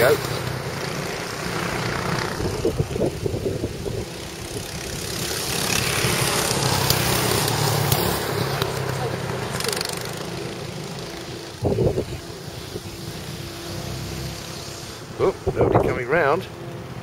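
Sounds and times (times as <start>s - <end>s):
go-kart engines buzzing: 0.0s - 17.0s.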